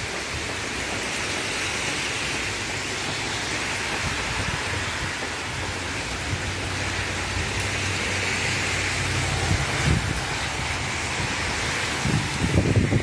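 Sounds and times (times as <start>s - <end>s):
heavy rain on pavement and cars: 0.0s - 13.0s.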